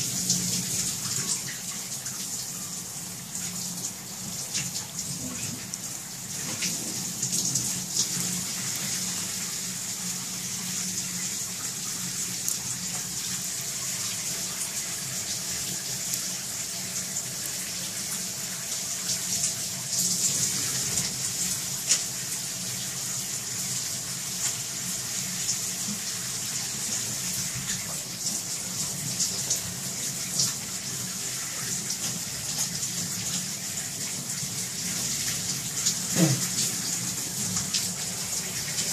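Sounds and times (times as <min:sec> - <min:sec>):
water running from a faucet: 0:00.0 - 0:38.9.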